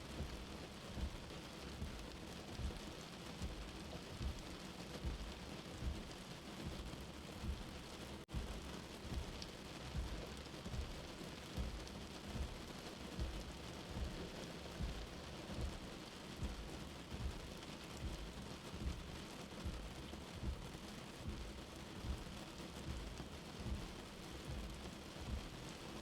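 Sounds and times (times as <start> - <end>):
steady rain: 0.0 - 26.0
heartbeat thumping: 0.1 - 26.0.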